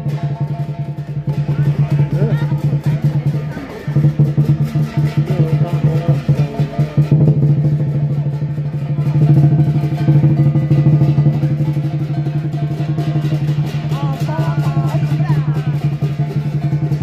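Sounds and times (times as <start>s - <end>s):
cymbals clashing: 0.0s - 17.0s
large drum fast roll: 0.0s - 17.0s.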